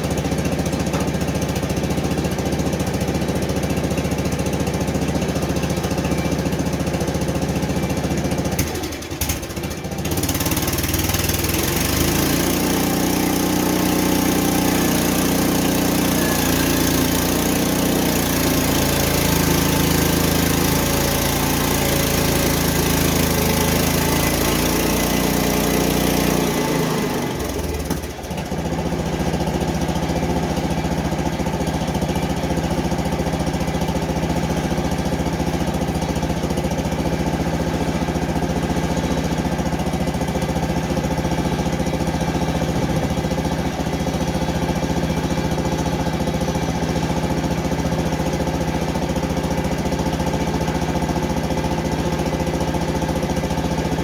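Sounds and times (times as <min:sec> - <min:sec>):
bandsaw sawmill engine running: 0:00.0 - 0:54.0.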